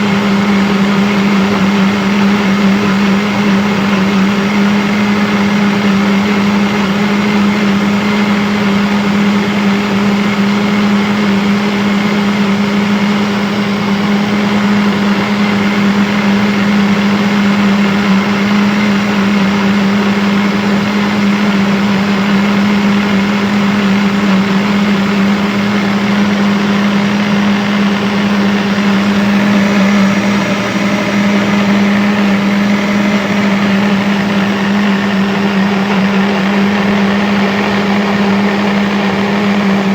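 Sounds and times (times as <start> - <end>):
electric blender running: 0.0 - 39.9.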